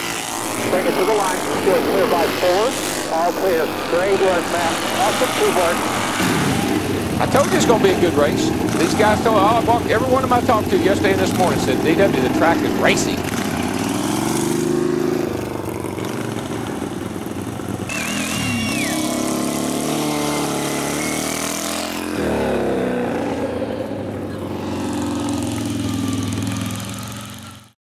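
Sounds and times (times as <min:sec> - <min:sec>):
lawn mower engines revving: 0:00.0 - 0:27.8.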